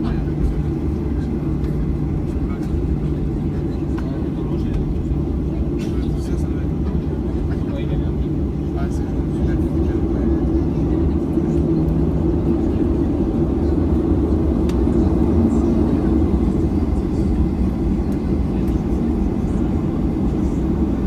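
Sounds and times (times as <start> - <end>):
low rumble of aircraft cabin: 0.0 - 21.0.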